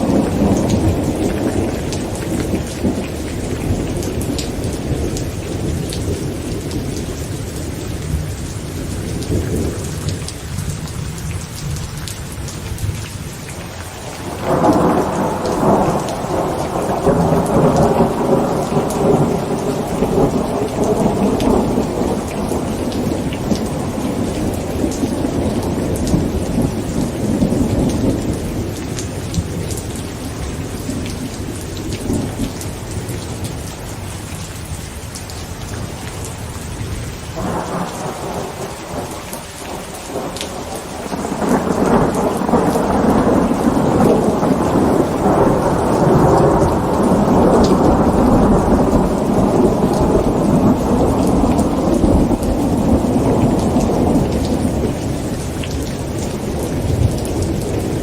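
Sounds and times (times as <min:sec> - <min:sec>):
thunder rumbling: 0:00.0 - 0:10.8, 0:14.1 - 0:34.1, 0:35.7 - 0:58.0
heavy rain drumming on a tent: 0:00.0 - 0:58.0.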